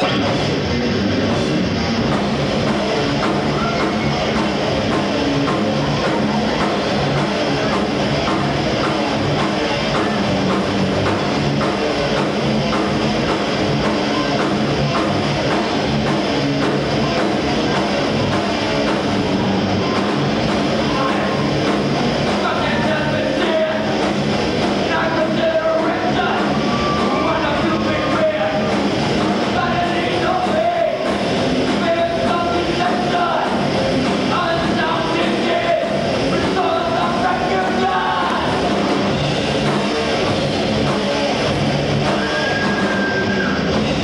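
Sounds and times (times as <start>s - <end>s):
distorted electric guitar: 0.0s - 44.0s
drum kit fast beat: 0.0s - 44.0s.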